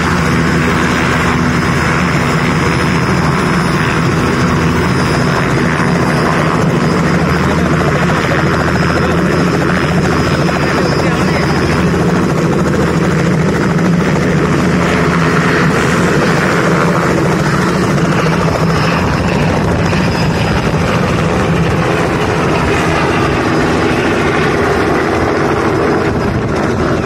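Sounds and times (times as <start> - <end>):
helicopter rotor and engine noise: 0.0 - 27.0.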